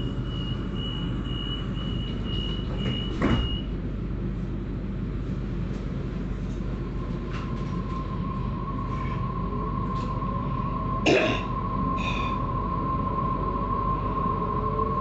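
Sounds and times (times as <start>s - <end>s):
train hum: 0.0s - 15.0s.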